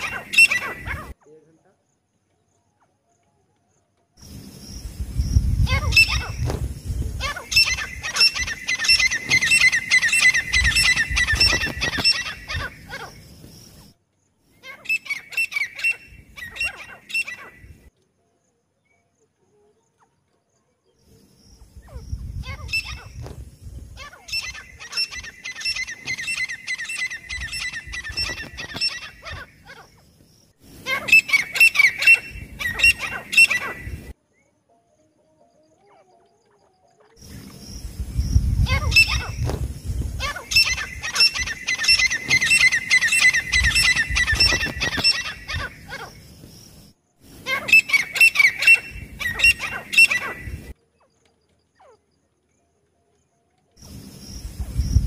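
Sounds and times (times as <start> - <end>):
francolins calling: 0.0 - 1.6, 4.2 - 17.9, 21.0 - 23.2, 23.8 - 34.2, 35.7 - 52.2.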